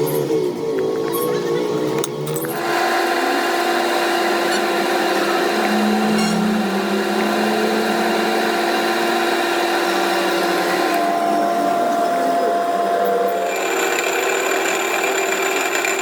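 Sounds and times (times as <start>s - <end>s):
electric power tool motor humming: 2.4s - 16.0s.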